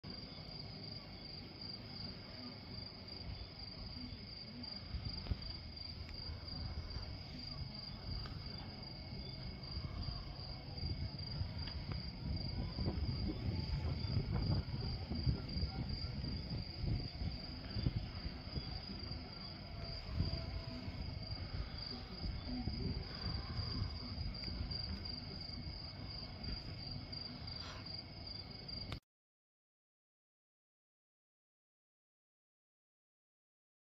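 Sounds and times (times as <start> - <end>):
crickets chirping: 0.1 - 29.0.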